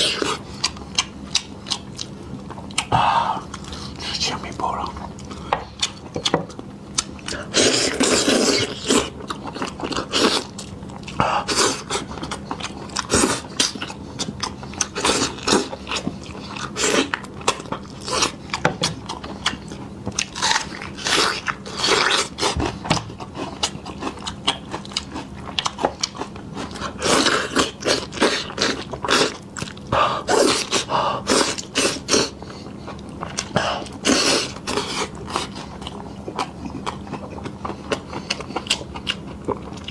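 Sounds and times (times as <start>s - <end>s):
biting and chewing: 0.0s - 4.0s, 4.9s - 39.9s
faint steady hum: 0.0s - 39.9s.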